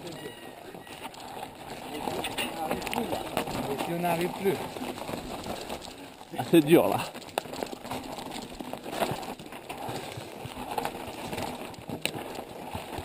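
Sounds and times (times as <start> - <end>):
tyres crunching over gravel: 0.0 - 13.0.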